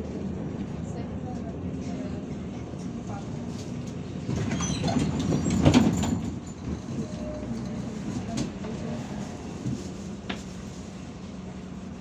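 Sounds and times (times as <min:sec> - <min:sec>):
bus cabin low rumble: 0:00.0 - 0:12.0.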